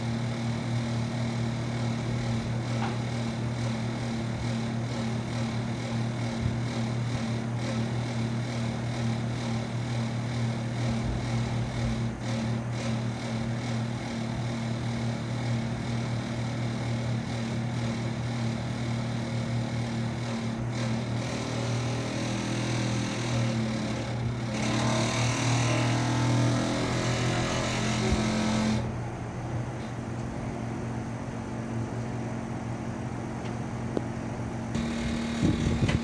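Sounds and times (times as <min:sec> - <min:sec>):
air conditioner humming: 0:00.0 - 0:36.0.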